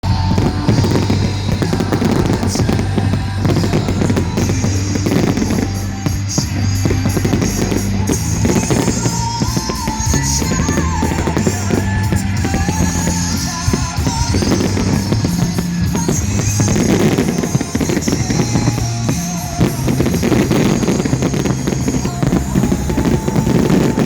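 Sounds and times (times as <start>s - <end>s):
fireworks banging: 0.0s - 24.0s
loud rock music: 0.0s - 24.0s.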